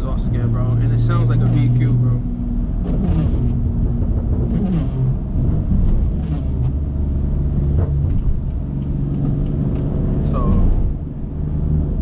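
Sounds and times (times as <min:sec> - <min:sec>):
deep car exhaust drone: 0:00.0 - 0:12.0.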